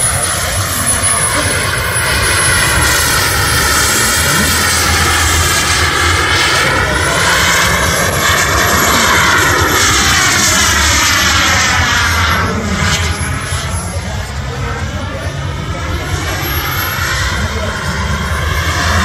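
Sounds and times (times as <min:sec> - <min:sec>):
model jet engine whine: 0:00.0 - 0:19.0.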